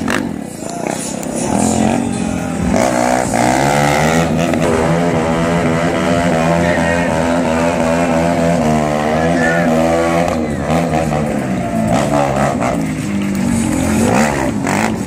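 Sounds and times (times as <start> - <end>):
motorcycle engine revving hard: 0.0 - 15.0.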